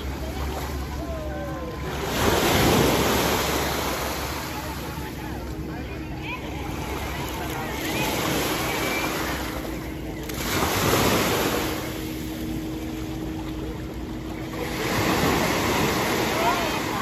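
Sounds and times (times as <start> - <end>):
sea waves breaking on sand: 0.0 - 17.0.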